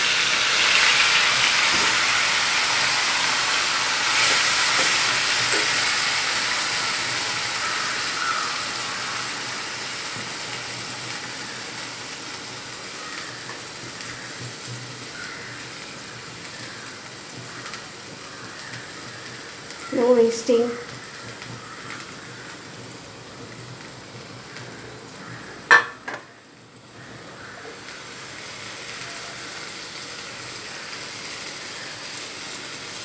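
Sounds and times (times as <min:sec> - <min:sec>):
chicken sizzling in hot fat: 0:00.0 - 0:33.0.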